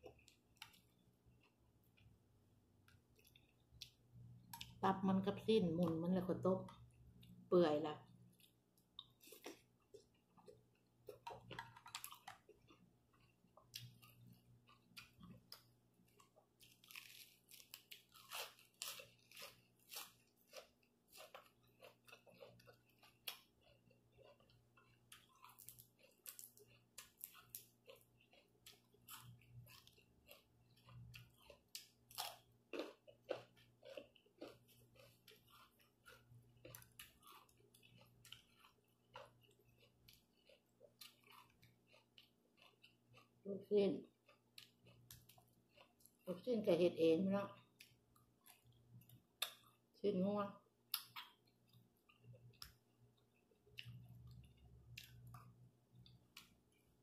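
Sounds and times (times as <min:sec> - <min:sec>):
person chewing food: 0:00.0 - 0:04.8, 0:06.6 - 0:46.3, 0:47.5 - 0:50.0, 0:50.7 - 0:57.0.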